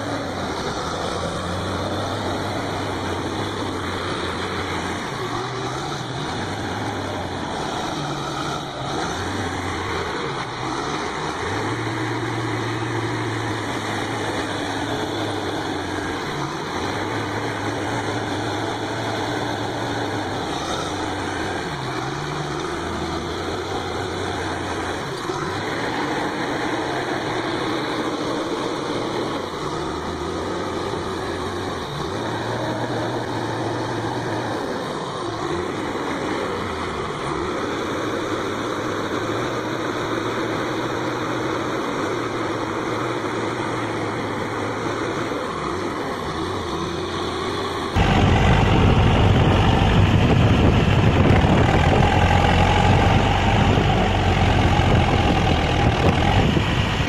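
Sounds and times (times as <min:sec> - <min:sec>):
diesel engine idling: 0:00.0 - 0:57.0
rough tractor engine rumble: 0:00.0 - 0:57.0.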